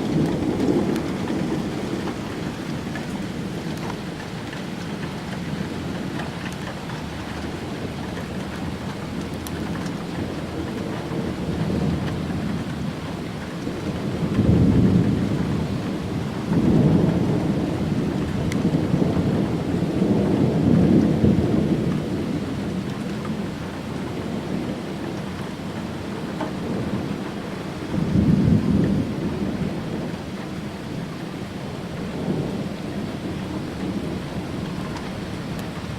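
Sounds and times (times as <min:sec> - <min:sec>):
steady rain: 0:00.0 - 0:35.9
thunder rumbling: 0:00.0 - 0:35.9.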